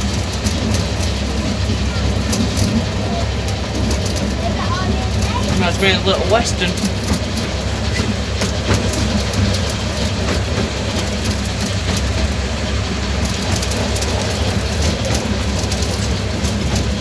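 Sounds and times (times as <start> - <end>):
miniature train rumbling: 0.0 - 17.0
wheels clicking on track: 0.0 - 17.0.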